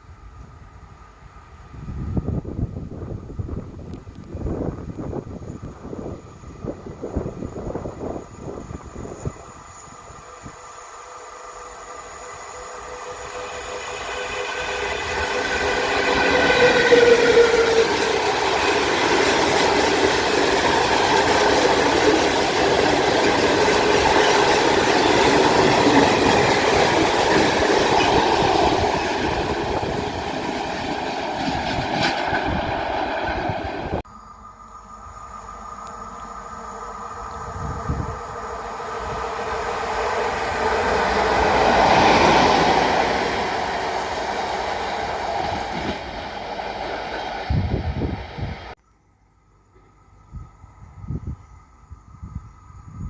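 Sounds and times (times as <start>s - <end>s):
freight train wheels rumbling: 0.0s - 48.8s.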